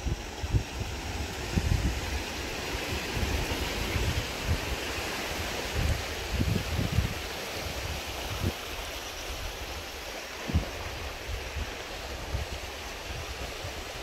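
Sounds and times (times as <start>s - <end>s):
wind buffeting microphone: 0.0s - 8.8s, 10.4s - 14.0s
flowing water: 0.0s - 14.0s
wind: 0.0s - 14.0s.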